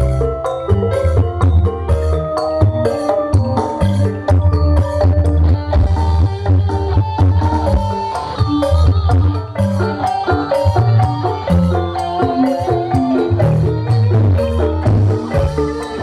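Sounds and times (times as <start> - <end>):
band music over pa system: 0.0 - 16.0.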